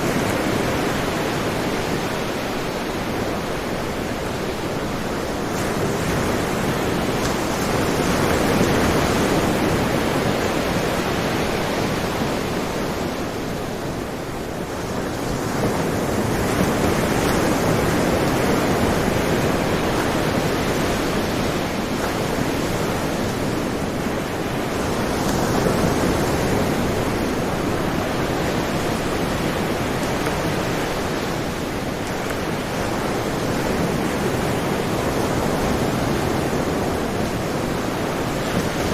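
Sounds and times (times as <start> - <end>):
sea surf waves rushing: 0.0 - 38.9.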